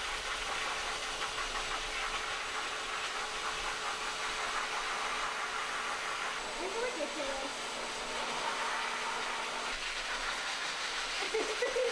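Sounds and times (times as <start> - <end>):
pet dryer blowing air: 0.0 - 11.9.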